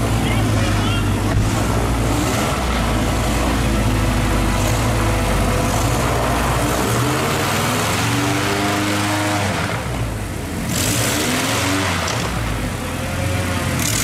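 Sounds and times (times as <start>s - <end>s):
airboat engine and propeller: 0.0s - 14.0s.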